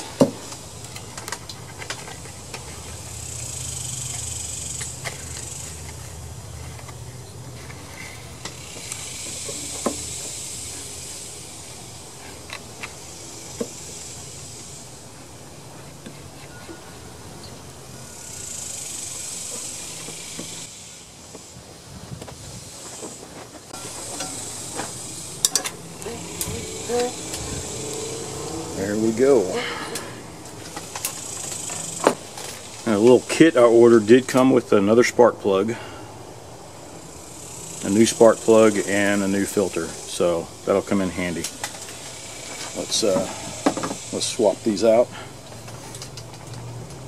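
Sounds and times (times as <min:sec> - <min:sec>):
steady high hiss: 0:00.0 - 0:47.0.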